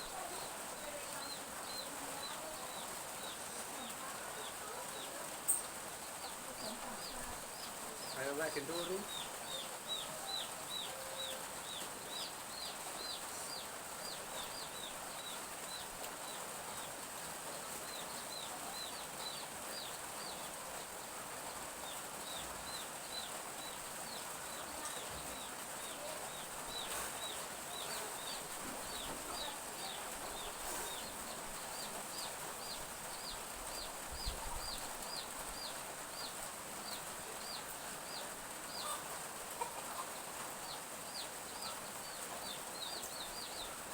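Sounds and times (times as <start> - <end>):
light drizzle hiss: 0.0 - 43.9
chicks peeping: 0.3 - 17.0, 17.6 - 20.5, 21.8 - 43.9.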